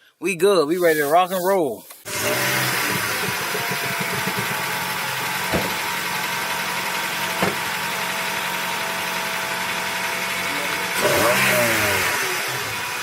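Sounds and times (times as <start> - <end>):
car engine running: 2.1 - 13.0.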